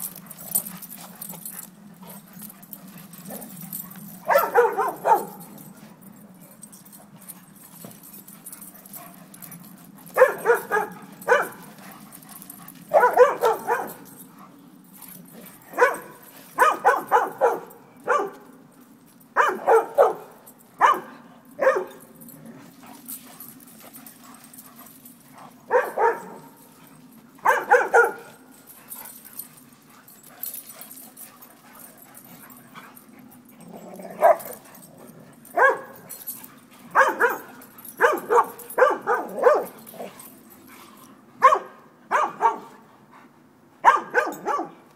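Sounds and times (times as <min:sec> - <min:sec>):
low hum: 0:00.0 - 0:41.4
dogs barking in play: 0:00.0 - 0:42.9, 0:43.8 - 0:44.9.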